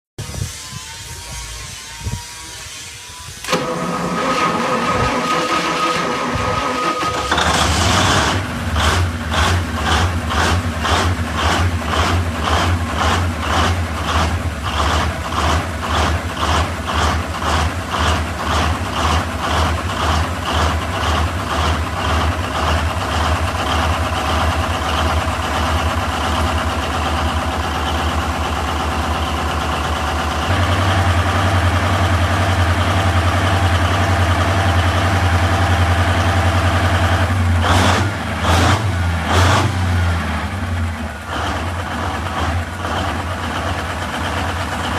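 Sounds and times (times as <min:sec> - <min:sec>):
diesel engine starting and running: 0:00.2 - 0:44.9.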